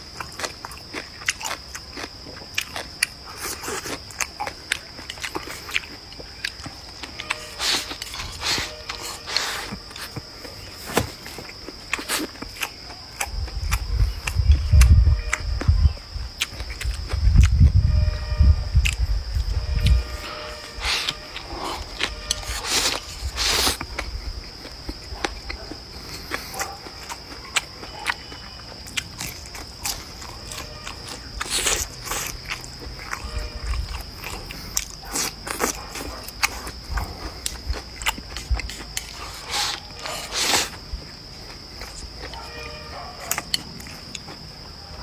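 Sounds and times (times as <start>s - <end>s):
person eating crunchily: 0.0s - 44.8s
high insect trill: 0.0s - 45.0s.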